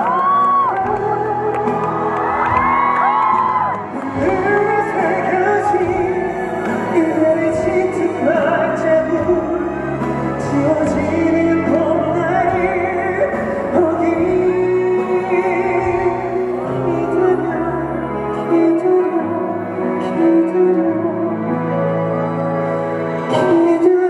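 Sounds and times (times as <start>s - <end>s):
band playing live: 0.0s - 24.0s.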